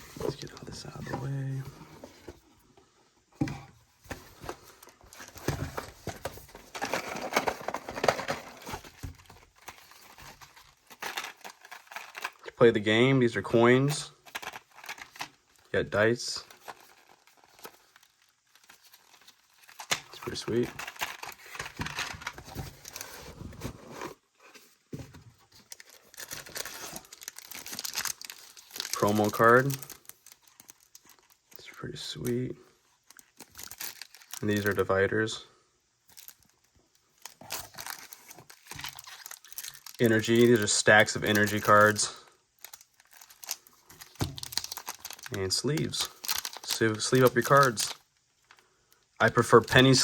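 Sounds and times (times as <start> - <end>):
cardboard and paper rustling: 0.0 - 2.7, 3.4 - 34.9, 36.1 - 48.6.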